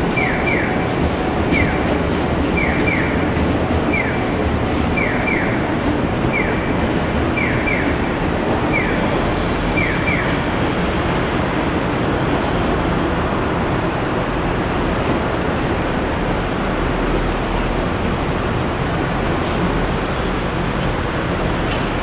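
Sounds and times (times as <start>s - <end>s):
city background noise: 0.0s - 22.0s
electric train rumbling on tracks: 0.0s - 22.0s.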